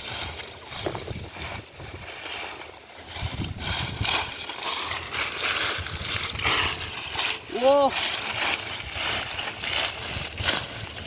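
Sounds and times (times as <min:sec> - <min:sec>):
muddy water sloshing and splashing: 0:00.0 - 0:11.0.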